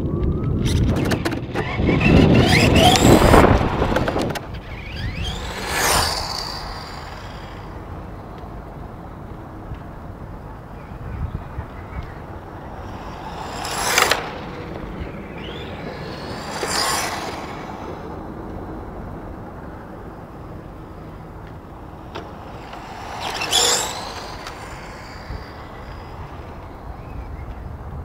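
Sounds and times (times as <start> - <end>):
radio-controlled car passing: 0.5 - 28.0.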